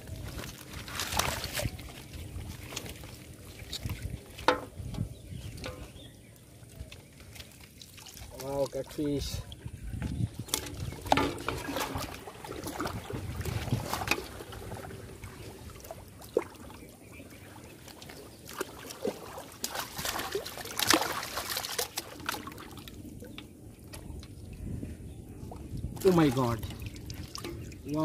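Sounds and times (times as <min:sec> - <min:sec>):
water sloshing and splashing: 0:00.0 - 0:28.0.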